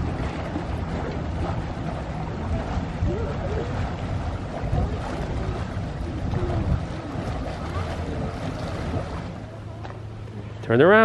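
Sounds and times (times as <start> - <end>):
wind buffeting microphone: 0.0 - 10.2
faint distant voices: 2.0 - 11.0.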